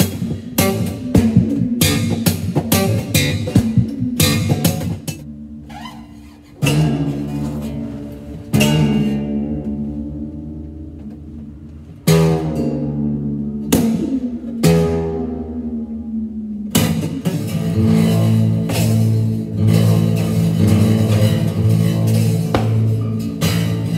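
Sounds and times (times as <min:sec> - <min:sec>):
acoustic bass guitar strumming: 0:00.0 - 0:23.9.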